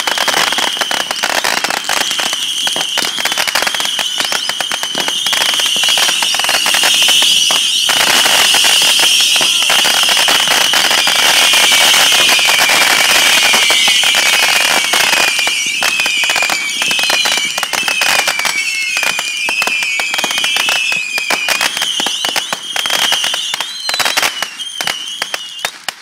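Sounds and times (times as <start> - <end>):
fireworks crackling: 0.0 - 26.0
shrill whistling tone: 3.6 - 25.7.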